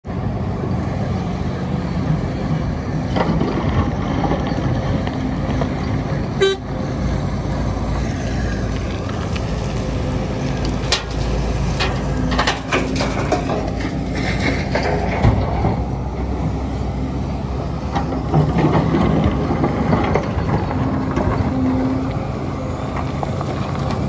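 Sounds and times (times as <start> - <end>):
excavator diesel engine running: 0.1 - 24.0.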